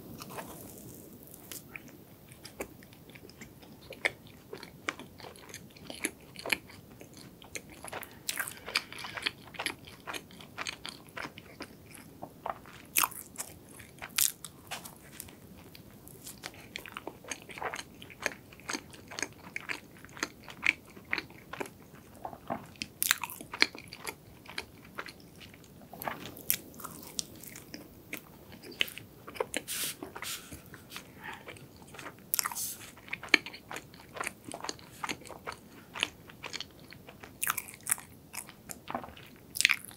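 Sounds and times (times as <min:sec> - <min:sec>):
person chewing: 0:00.1 - 0:39.9.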